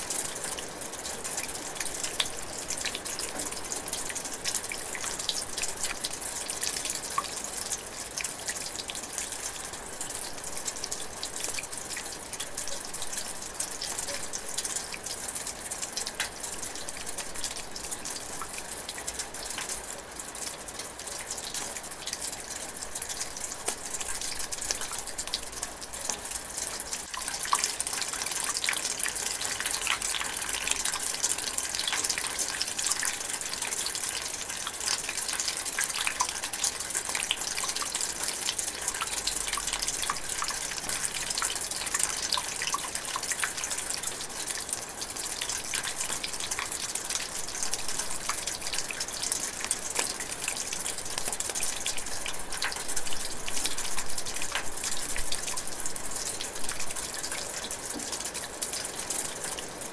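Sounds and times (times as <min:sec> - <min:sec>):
light rain drizzling: 0:00.0 - 0:59.9.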